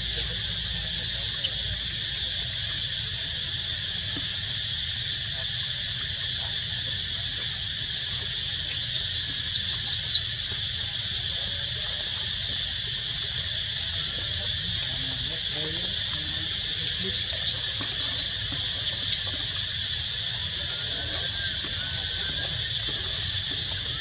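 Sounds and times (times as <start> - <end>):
insects chorus drone: 0.0 - 24.0.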